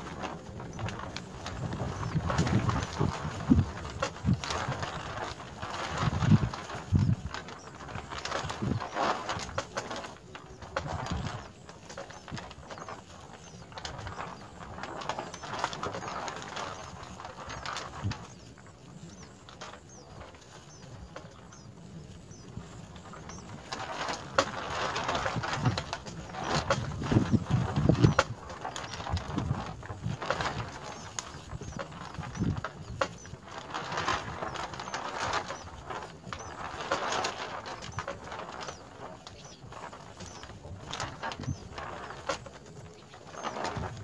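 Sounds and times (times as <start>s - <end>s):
bird rustling in straw nest: 0.0s - 44.0s.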